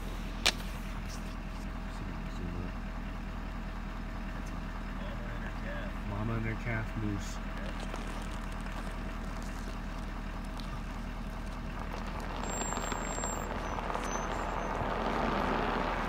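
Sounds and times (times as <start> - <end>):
pickup engine hum from inside cab: 0.0 - 16.0.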